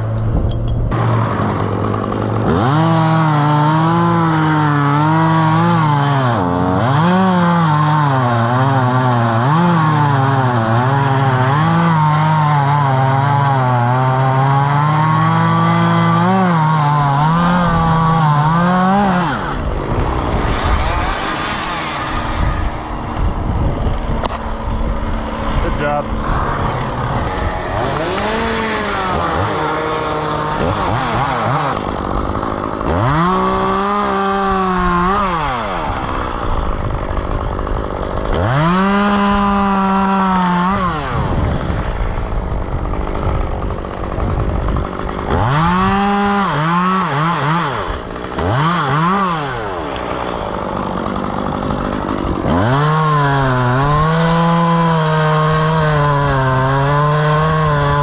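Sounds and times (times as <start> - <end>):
chainsaw revving while cutting wood: 0.9 - 58.0.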